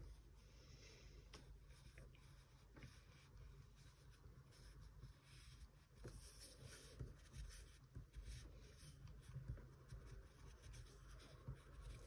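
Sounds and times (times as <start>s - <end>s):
pastel scratching on paper: 2.2s - 12.0s.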